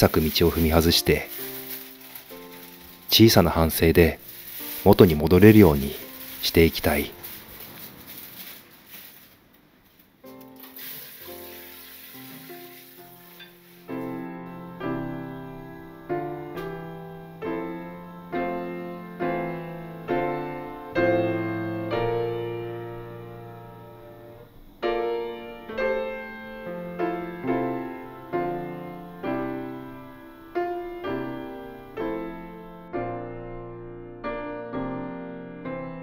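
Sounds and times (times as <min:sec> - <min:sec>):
gentle piano chords: 0:00.0 - 0:09.3, 0:10.2 - 0:36.0.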